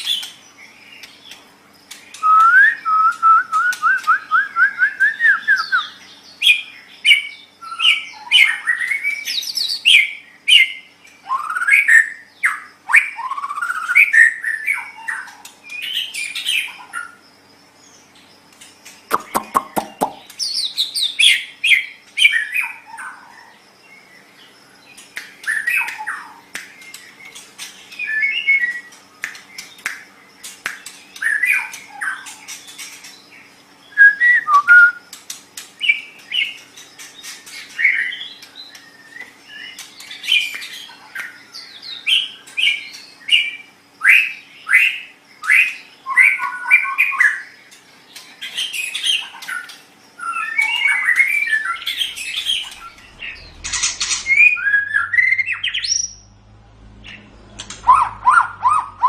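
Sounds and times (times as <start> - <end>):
songbird singing varied song: 0.0 - 59.0.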